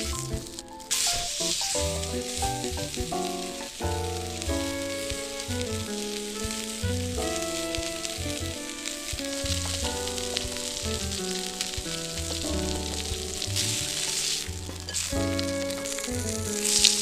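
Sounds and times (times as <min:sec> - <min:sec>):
background music: 0:00.0 - 0:17.0
food sizzling in a skillet: 0:00.0 - 0:17.0.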